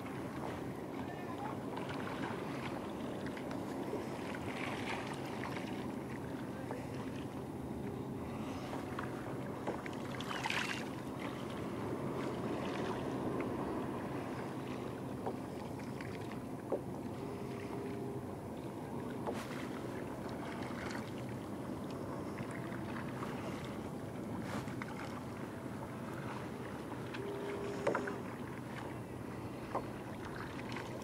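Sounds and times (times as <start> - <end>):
water lapping around a kayak: 0.0 - 31.0.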